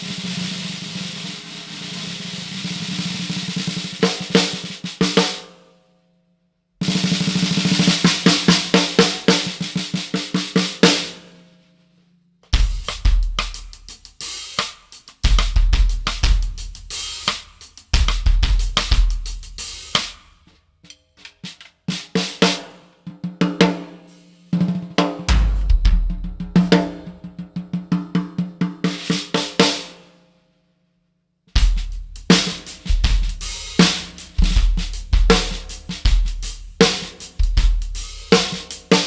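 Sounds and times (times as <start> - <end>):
drum kit playing: 0.0 - 5.6, 6.8 - 11.3, 12.5 - 30.0, 31.6 - 39.0.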